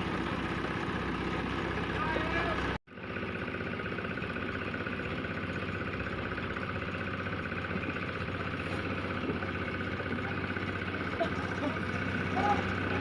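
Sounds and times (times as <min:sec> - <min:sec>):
cement mixer engine running: 0:00.0 - 0:13.0.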